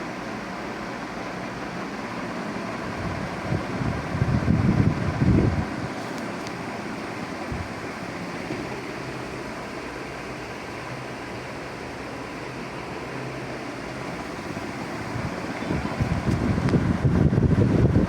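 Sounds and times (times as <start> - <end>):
ceiling fan rushing air: 0.0 - 18.0
faint hum: 0.0 - 18.0.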